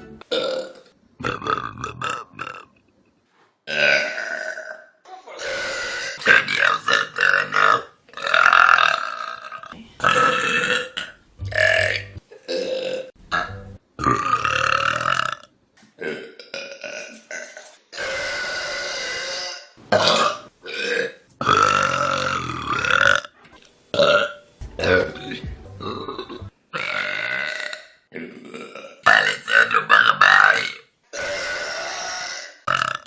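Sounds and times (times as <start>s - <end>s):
person burping: 0.2s - 2.8s, 3.7s - 18.5s, 19.9s - 23.3s, 24.0s - 25.2s, 25.8s - 33.0s.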